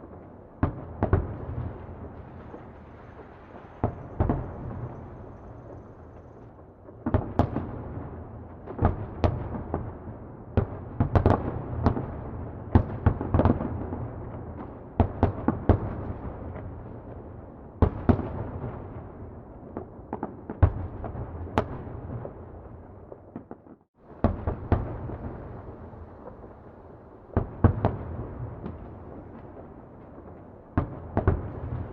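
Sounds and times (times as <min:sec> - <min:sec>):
distant fireworks exploding: 0:00.0 - 0:31.9.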